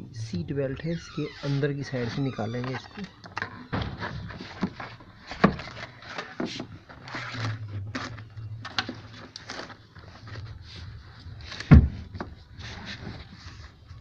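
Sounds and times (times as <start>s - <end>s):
wires rustling under plastic trim: 1.0s - 14.0s.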